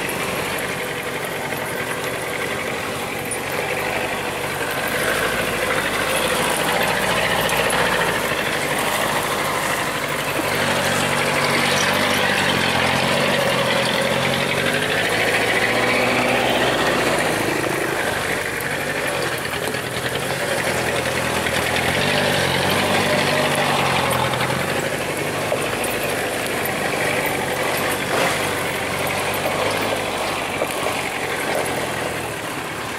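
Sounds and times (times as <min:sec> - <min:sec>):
truck engine running: 0:00.0 - 0:32.9.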